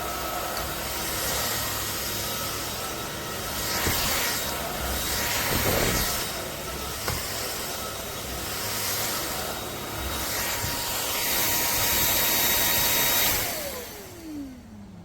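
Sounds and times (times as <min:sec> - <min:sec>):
stick vacuum cleaner whining: 0:00.0 - 0:15.0.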